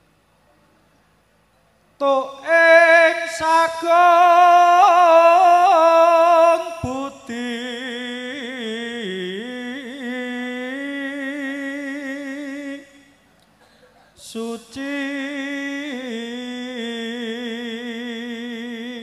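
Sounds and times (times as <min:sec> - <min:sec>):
man chanting into a microphone: 0:02.0 - 0:13.1, 0:14.2 - 0:19.0.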